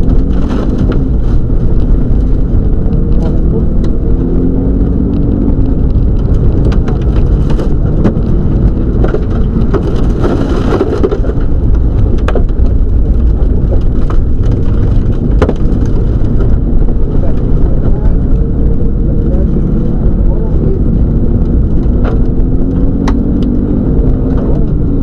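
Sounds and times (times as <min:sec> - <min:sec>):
car interior rumble on gravel: 0:00.0 - 0:25.0.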